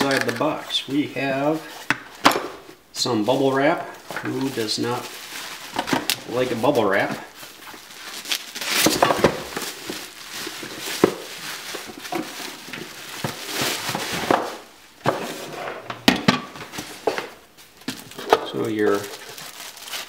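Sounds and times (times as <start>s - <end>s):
bubble wrap crinkling: 0.0s - 2.2s, 3.0s - 15.5s, 16.7s - 20.0s.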